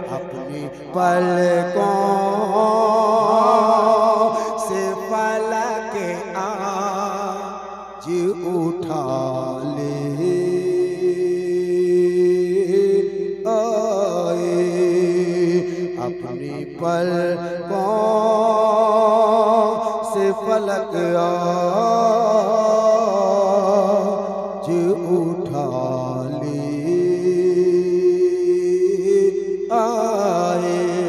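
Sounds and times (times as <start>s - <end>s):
man singing devotional song: 0.0s - 31.0s.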